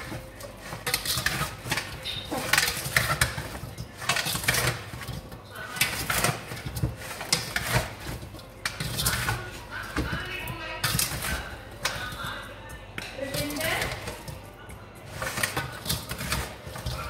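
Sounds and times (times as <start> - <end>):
metal tongs scraping steel bowl: 0.0 - 17.0.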